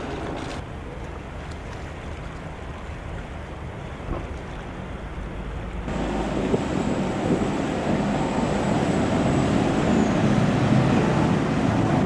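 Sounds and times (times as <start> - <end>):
boat engine and water rushing: 0.0 - 12.0.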